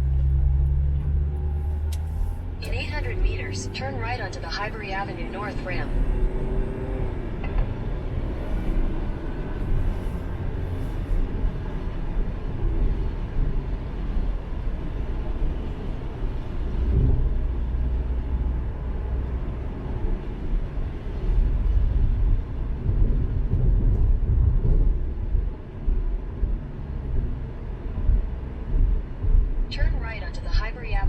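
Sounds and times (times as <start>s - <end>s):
car engine and tyre noise: 0.0s - 31.0s.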